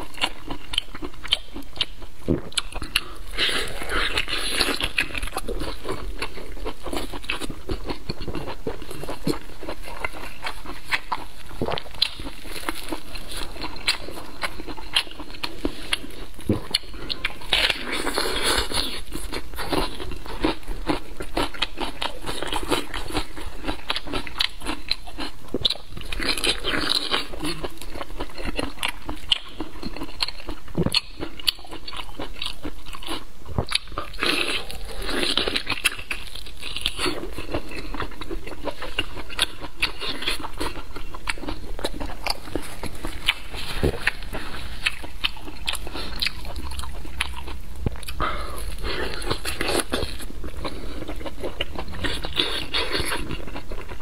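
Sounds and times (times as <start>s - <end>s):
person biting and chewing: 0.0s - 54.0s.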